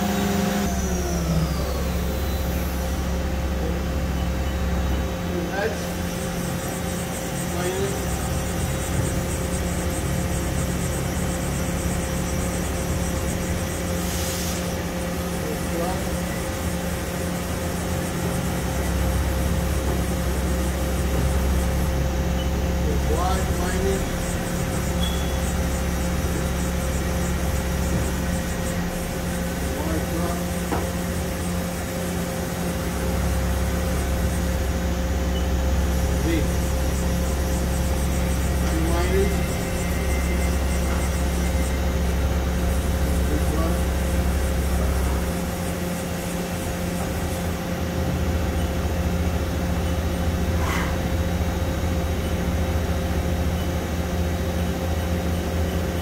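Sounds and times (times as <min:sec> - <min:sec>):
machine mechanical hum: 0:00.0 - 0:56.0.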